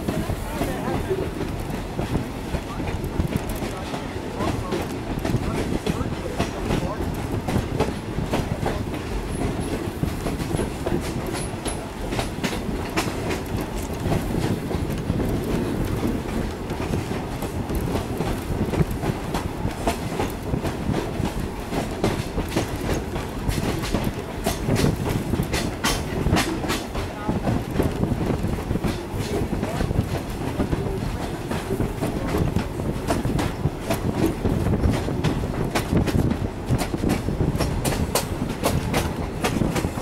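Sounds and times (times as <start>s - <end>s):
train clicks and clatter: 0.0s - 40.0s
train wheels rumbling on rails: 0.0s - 40.0s.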